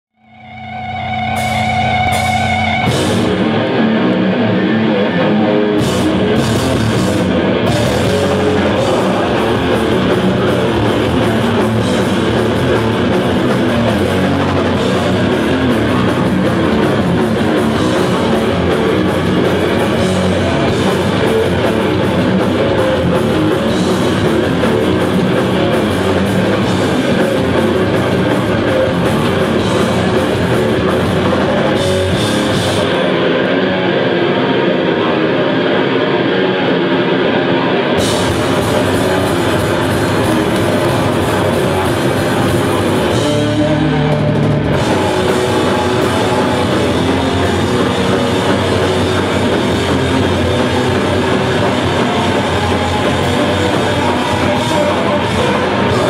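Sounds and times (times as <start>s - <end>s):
heavy metal band playing live: 0.2s - 56.0s.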